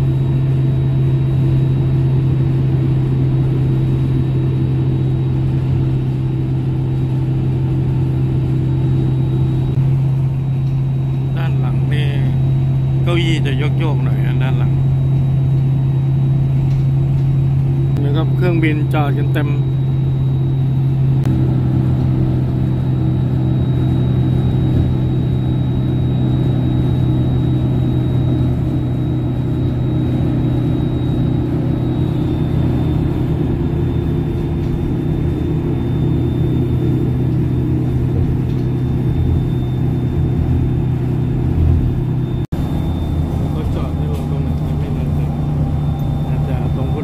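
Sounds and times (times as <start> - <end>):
bus engine droning: 0.0 - 47.0
faint high whine: 2.5 - 47.0.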